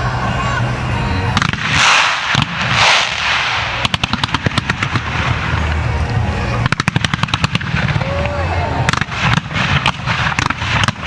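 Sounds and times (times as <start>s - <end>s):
low rumble of shell bursts: 1.3s - 11.0s
rapid firework cracks: 1.4s - 5.8s, 6.6s - 11.0s.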